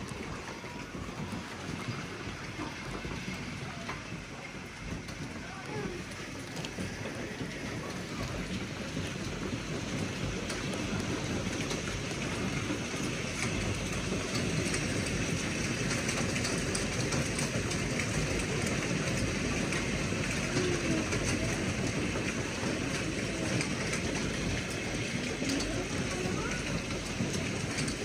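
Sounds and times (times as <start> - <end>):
rain falling steadily: 0.0 - 28.0.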